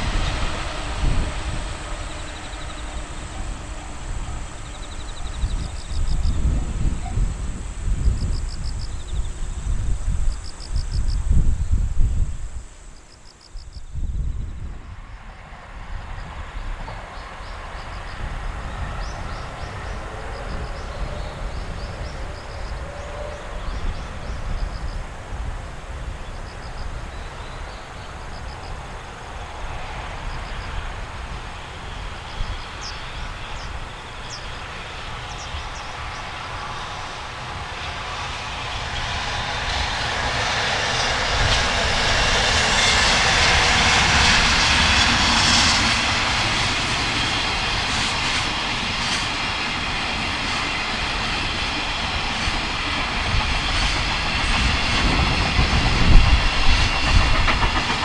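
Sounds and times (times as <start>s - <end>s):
freight train approaching: 0.0s - 58.0s
wind buffeting microphone: 0.0s - 58.0s.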